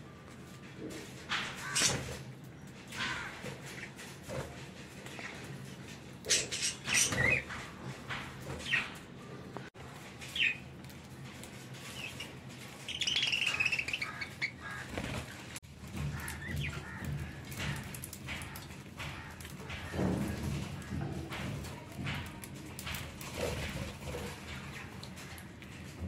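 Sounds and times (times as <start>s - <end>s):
wing flutters and rustling: 0.2s - 26.0s.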